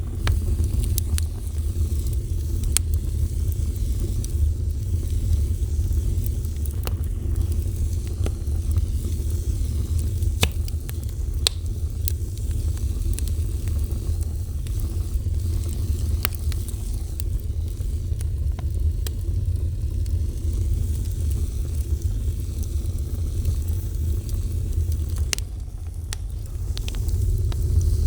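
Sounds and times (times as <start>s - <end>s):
fire popping: 0.0s - 28.0s
fire roaring and crackling: 0.0s - 28.0s.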